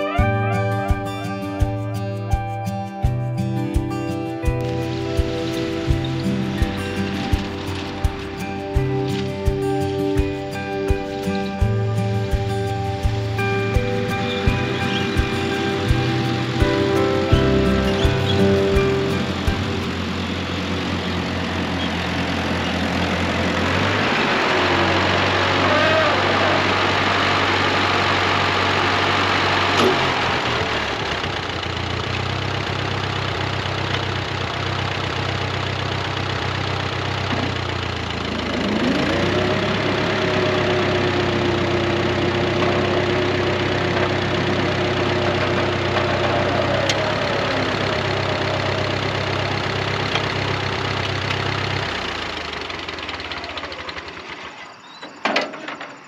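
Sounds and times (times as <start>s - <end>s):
mower whine: 0.0s - 56.0s
tractor engine running under load: 0.0s - 56.0s.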